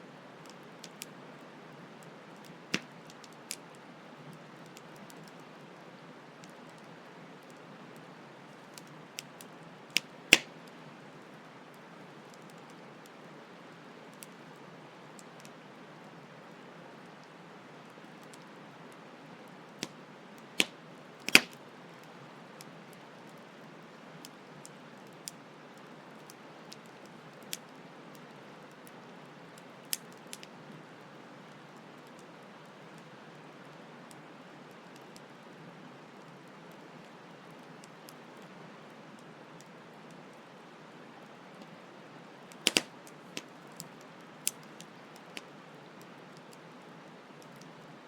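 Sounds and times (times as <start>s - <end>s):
campfire crackling: 0.3s - 48.0s.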